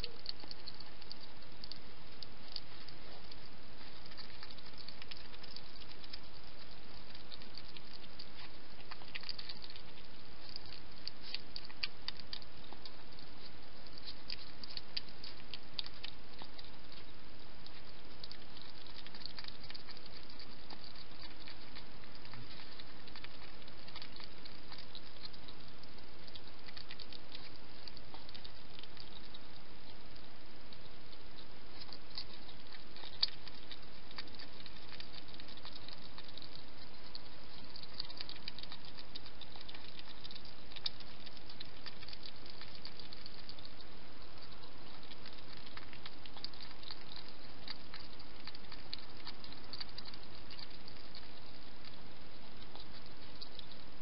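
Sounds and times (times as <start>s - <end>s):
hedgehog chewing wet clicks: 0.0s - 54.0s.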